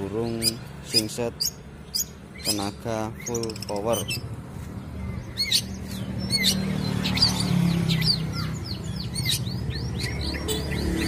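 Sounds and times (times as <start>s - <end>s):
bird chirping and whistling: 0.3s - 4.2s, 5.2s - 11.0s.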